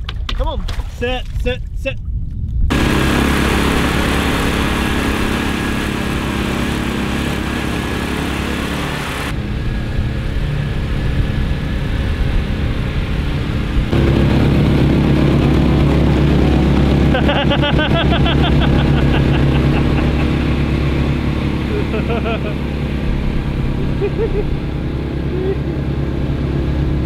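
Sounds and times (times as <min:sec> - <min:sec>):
boat engines running: 0:02.7 - 0:27.0
water rushing against hull: 0:02.7 - 0:27.0.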